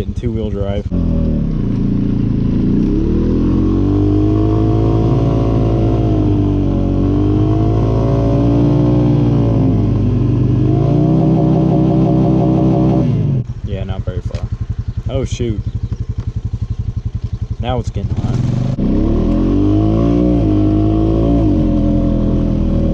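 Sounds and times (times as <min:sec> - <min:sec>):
atv engine revving: 0:00.0 - 0:22.9.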